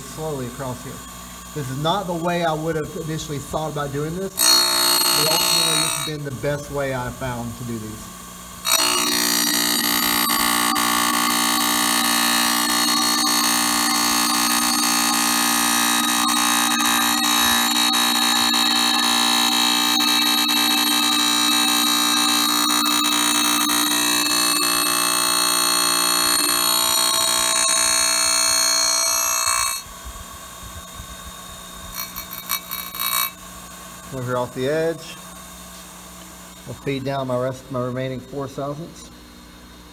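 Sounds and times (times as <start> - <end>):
grinding wheel whining on steel: 0.0 - 6.9, 8.3 - 38.1.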